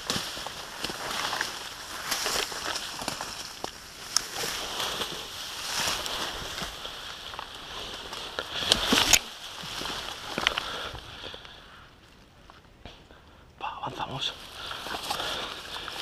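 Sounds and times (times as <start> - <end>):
footsteps on dirt track: 0.0 - 11.6, 14.2 - 16.0
leaves rustling against clothing: 0.0 - 13.0, 13.7 - 16.0.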